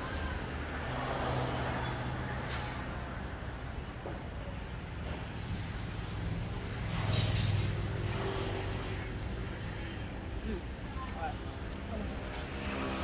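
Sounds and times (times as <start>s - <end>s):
traffic engine hum: 0.0s - 13.0s.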